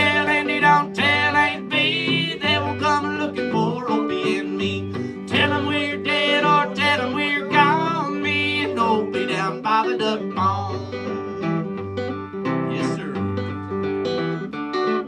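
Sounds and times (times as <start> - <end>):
man singing country song: 0.0 - 11.8, 12.6 - 13.6
acoustic guitar strumming: 0.0 - 15.0.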